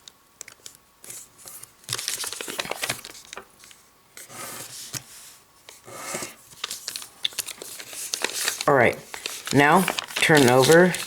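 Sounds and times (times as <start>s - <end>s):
paper crinkling and rustling: 0.5s - 11.0s.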